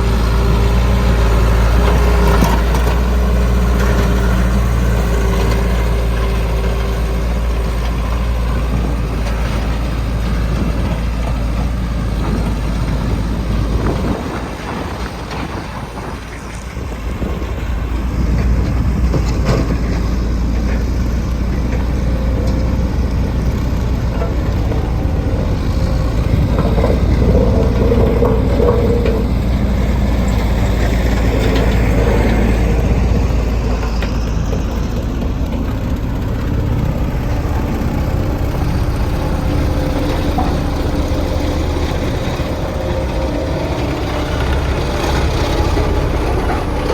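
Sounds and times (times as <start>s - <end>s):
diesel engines rumbling: 0.0s - 46.9s.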